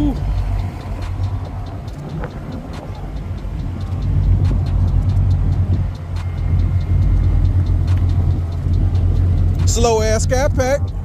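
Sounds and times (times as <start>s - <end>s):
muscle car exhaust rumble idling: 0.0s - 11.0s.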